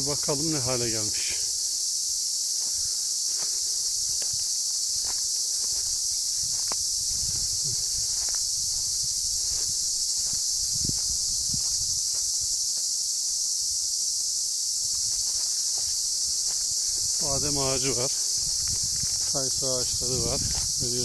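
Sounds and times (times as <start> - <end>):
insects shrilling: 0.0 - 21.0
footsteps through dry grass: 1.6 - 13.0, 14.7 - 21.0.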